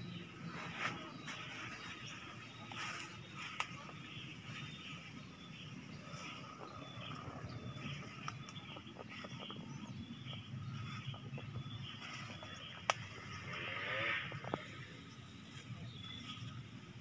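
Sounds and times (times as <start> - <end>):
birds calling: 0.0 - 17.0
people moving through undergrowth: 0.0 - 17.0
leaves rustling: 0.2 - 9.7, 10.3 - 17.0.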